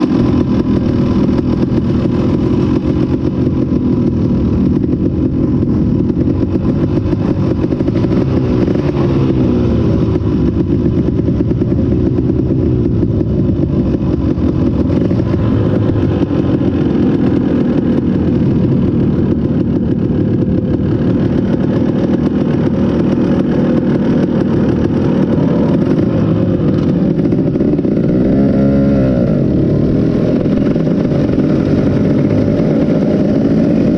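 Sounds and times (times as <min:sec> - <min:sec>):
motocross engine revving: 0:00.0 - 0:33.9.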